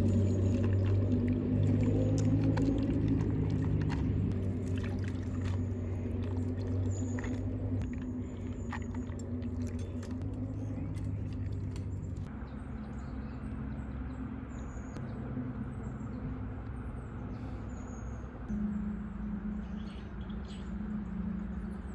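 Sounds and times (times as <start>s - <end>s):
low hum: 0.0s - 21.9s.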